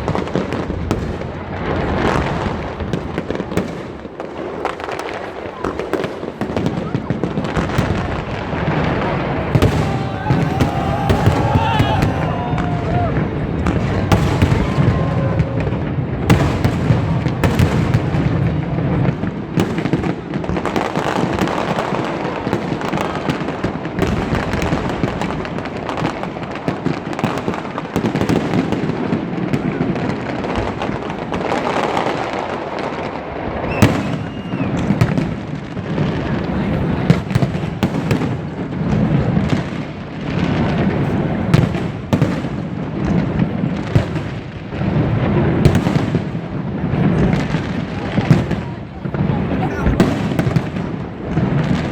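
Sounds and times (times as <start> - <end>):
fireworks crackling and banging: 0.0 - 51.9.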